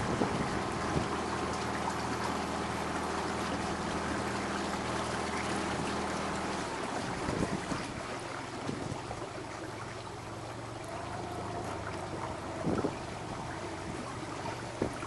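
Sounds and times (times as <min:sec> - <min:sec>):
boat motor humming: 0:00.0 - 0:15.0
water rushing along hull: 0:00.0 - 0:15.0.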